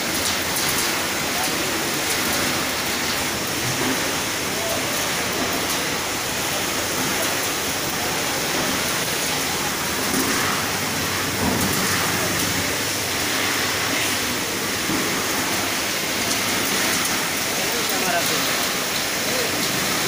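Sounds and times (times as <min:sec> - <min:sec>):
machinery hissing: 0:01.4 - 0:20.0.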